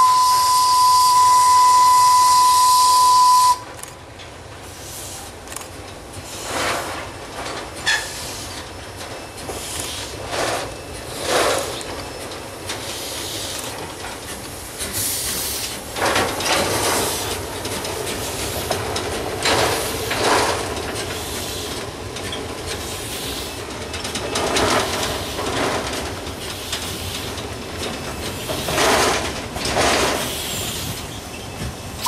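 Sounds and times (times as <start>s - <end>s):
train rumbling: 0.0s - 32.0s
steam locomotive hissing: 4.4s - 32.0s.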